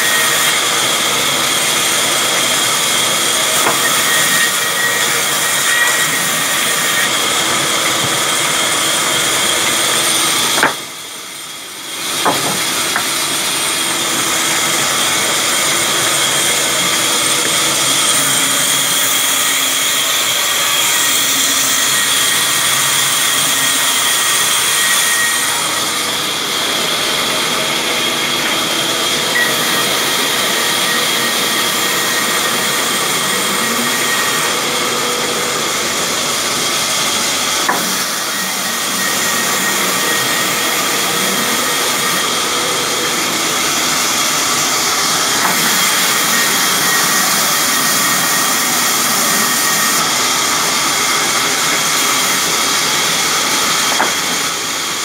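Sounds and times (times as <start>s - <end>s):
band saw whining: 0.0s - 55.0s.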